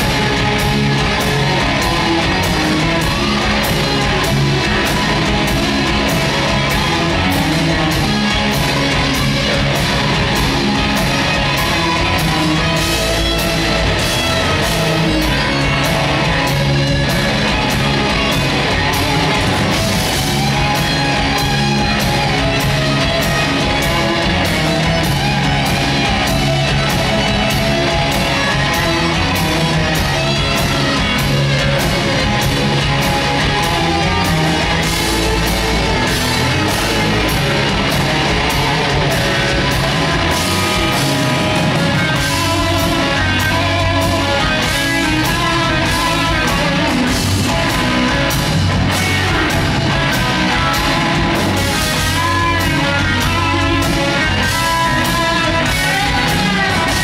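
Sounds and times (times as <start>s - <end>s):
bass guitar: 0.0s - 57.0s
distorted electric guitars: 0.0s - 57.0s
steady drumbeat: 0.0s - 57.0s.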